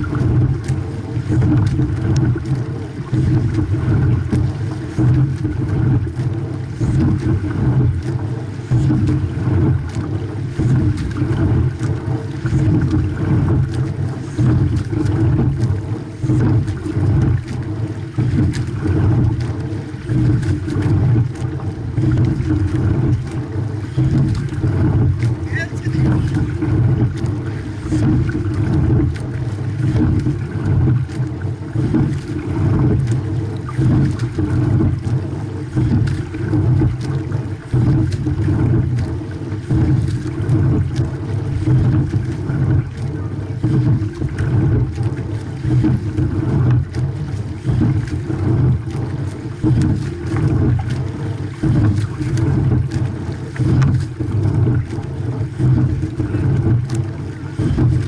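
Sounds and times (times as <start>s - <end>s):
water rushing along boat hull: 0.0s - 58.0s
wind on microphone: 0.0s - 58.0s.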